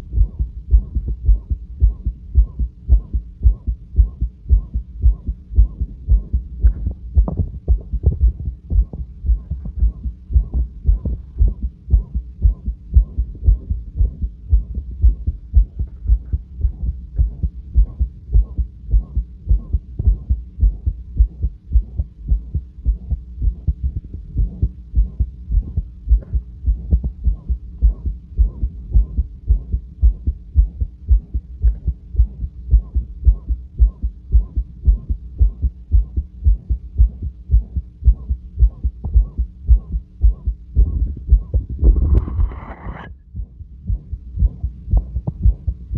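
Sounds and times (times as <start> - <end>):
heartbeat through stethoscope: 0.0 - 45.9
whooshing heart murmur: 0.0 - 45.9.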